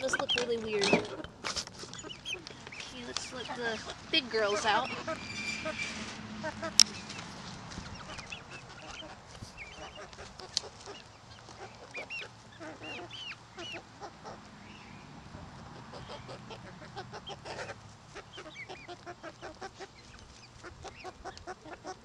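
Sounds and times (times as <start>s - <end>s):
chicks peeping: 0.0s - 22.0s
hens clucking: 0.0s - 22.0s.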